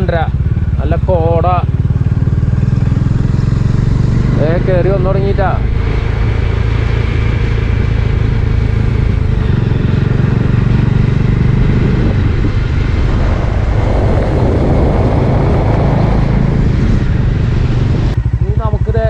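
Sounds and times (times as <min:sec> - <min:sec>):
wind rushing over microphone: 0:00.0 - 0:18.5
motorcycle engine running: 0:00.0 - 0:19.0.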